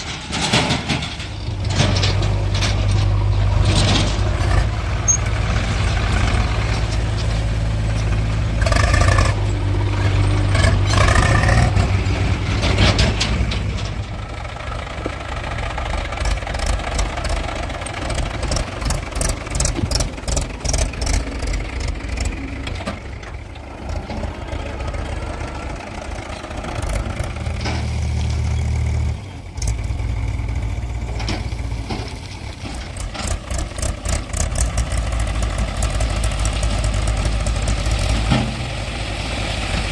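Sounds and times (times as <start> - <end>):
heavy diesel engines: 0.0 - 39.9.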